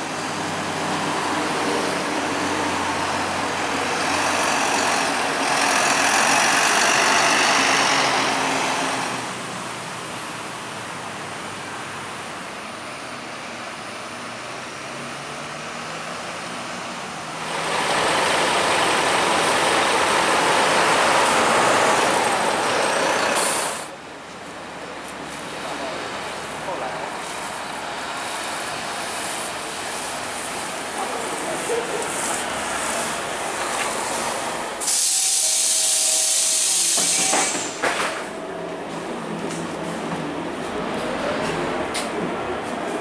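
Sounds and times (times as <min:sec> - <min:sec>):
diesel bus engines: 0:00.0 - 0:43.0.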